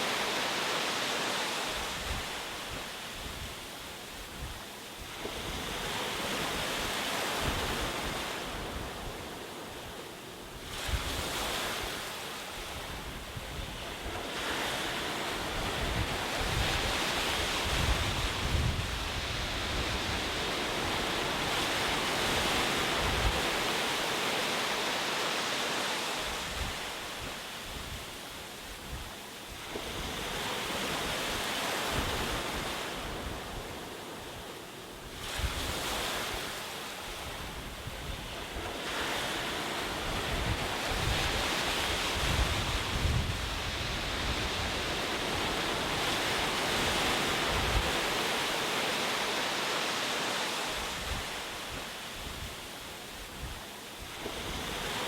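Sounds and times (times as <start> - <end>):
waves breaking on shore: 0.0 - 55.0
wind rumble on microphone: 1.8 - 10.0, 10.6 - 24.0, 26.2 - 48.4, 50.7 - 55.0.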